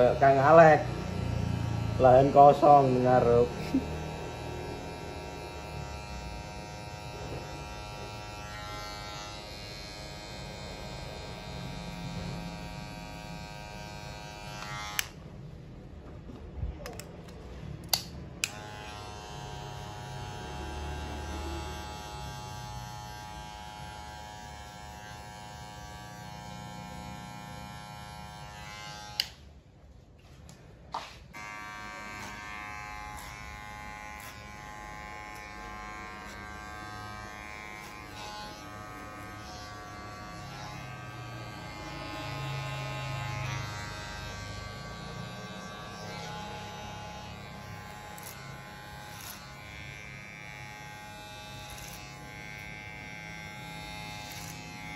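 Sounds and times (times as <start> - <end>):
electric hair clipper buzzing: 0.0 - 15.3, 17.9 - 29.5, 30.9 - 54.9.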